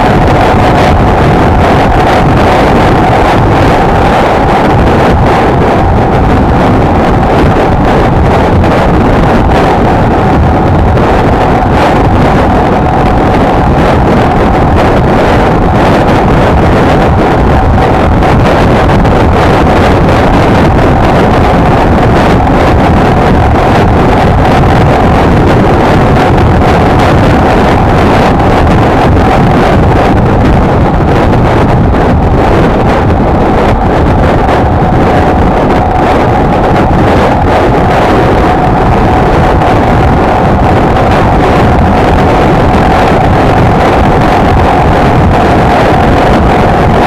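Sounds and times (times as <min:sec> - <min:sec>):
wind buffeting on microphone: 0:00.0 - 0:47.0.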